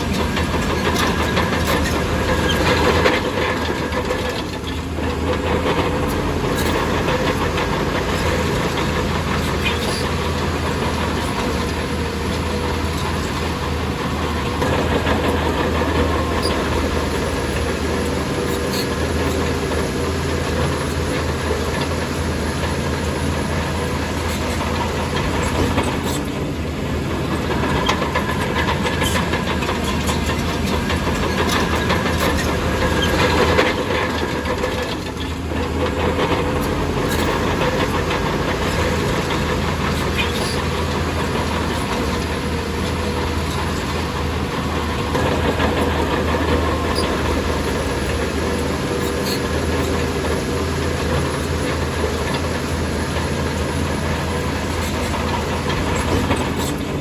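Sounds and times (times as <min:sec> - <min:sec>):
bulldozer diesel engine running: 0:00.0 - 0:57.0
steel tracks clanking and rattling: 0:00.0 - 0:57.0.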